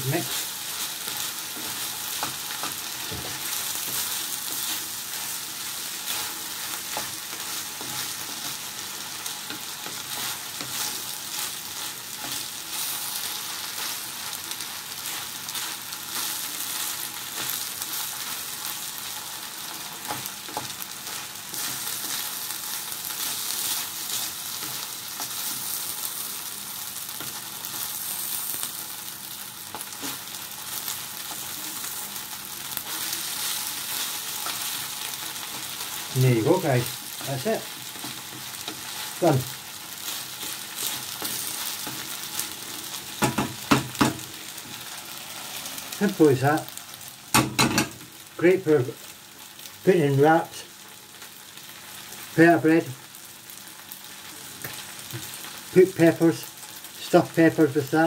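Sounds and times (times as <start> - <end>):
rice sizzling in a frying pan: 0.0 - 58.0.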